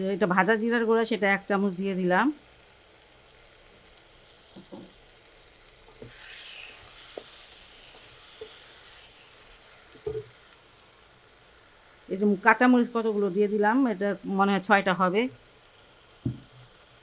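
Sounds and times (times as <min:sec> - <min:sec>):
soft sizzle of frying: 0:00.0 - 0:17.0.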